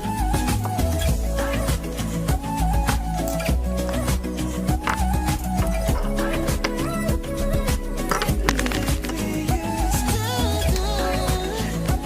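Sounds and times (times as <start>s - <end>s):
instrumental pop music: 0.0s - 12.0s.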